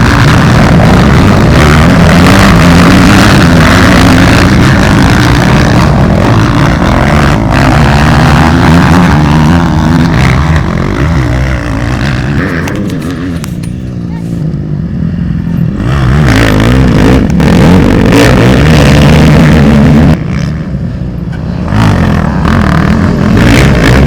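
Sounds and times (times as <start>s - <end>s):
motocross motorcycle engines revving: 0.0s - 24.0s.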